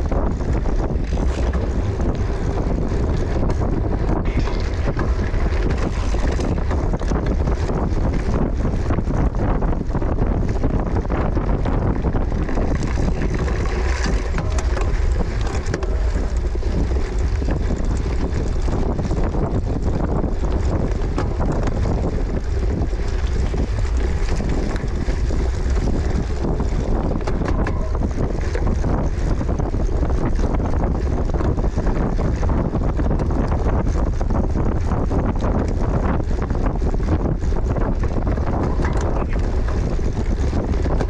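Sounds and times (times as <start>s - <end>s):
small rattles and clicks: 0.0s - 41.0s
wind rushing over microphone: 0.0s - 41.0s.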